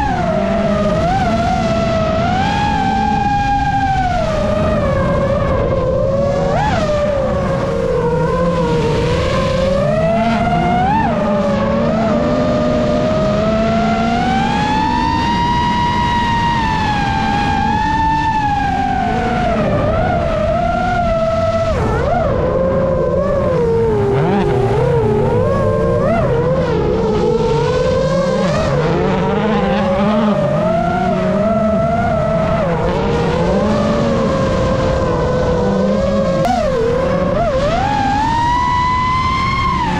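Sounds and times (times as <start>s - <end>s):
drone motors whining: 0.0s - 39.9s
rally car engine at speed: 0.0s - 39.9s.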